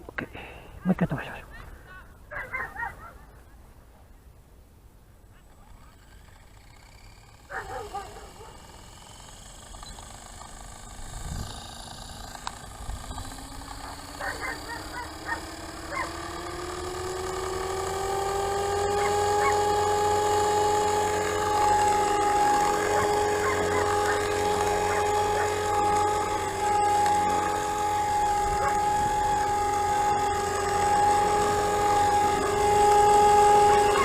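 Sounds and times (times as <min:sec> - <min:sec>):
helicopter motor whine rising: 0:05.2 - 0:34.0.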